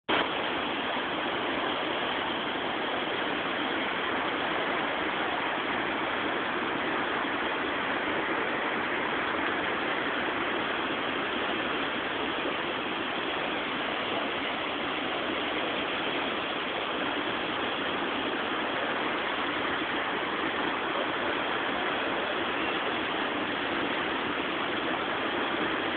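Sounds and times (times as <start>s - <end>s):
river water rushing: 0.1s - 25.9s.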